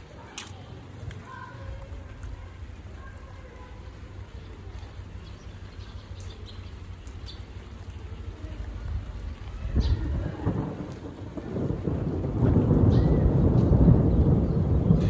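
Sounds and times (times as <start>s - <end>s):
steady rain falling: 0.0s - 15.0s
thunder rumbling: 0.0s - 15.0s.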